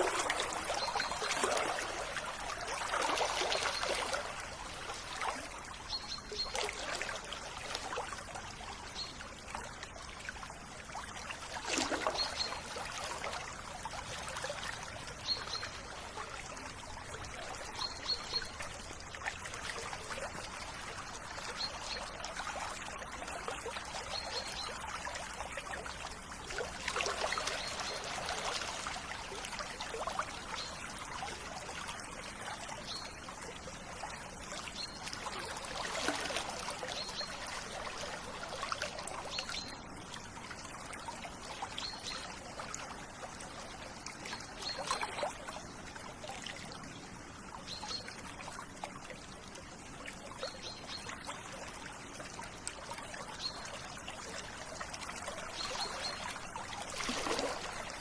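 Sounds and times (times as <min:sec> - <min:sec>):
river water trickling and splashing: 0:00.0 - 0:58.0.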